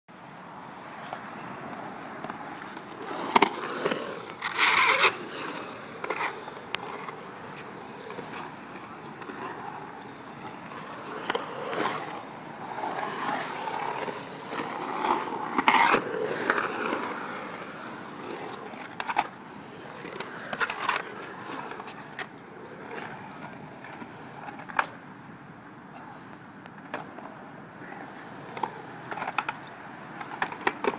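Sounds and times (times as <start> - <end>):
skateboard wheels rolling on concrete: 0.1 - 30.9
skateboard clacks: 1.0 - 25.0, 25.9 - 30.9.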